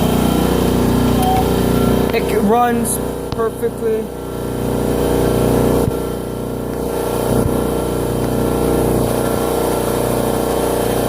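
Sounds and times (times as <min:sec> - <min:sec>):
electric air compressor running: 0:00.0 - 0:11.0.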